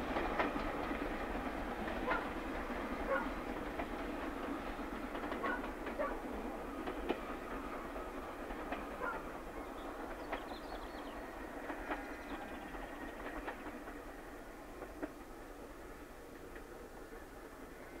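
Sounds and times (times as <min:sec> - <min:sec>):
wheels clicking over rail joints: 0:00.0 - 0:15.3
train rail rumble: 0:00.0 - 0:18.0.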